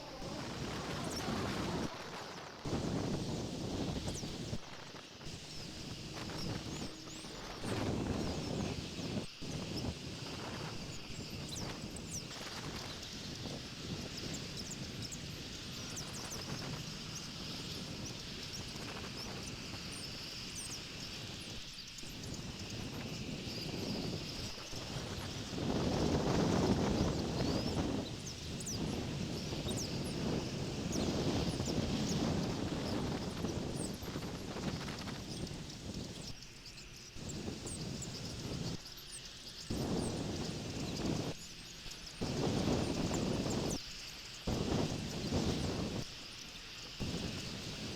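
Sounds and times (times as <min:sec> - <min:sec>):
faint high bird chirps: 0:00.0 - 0:02.0, 0:05.3 - 0:47.9
steady hiss: 0:00.0 - 0:47.9
wind rumbling on microphone: 0:00.0 - 0:47.9.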